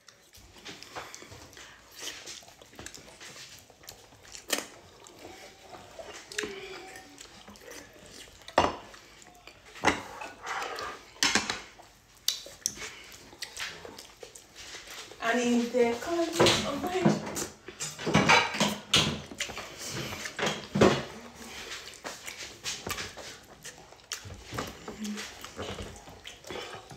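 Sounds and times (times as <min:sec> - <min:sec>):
mouth noises from eating: 0:00.0 - 0:15.2, 0:16.0 - 0:26.9.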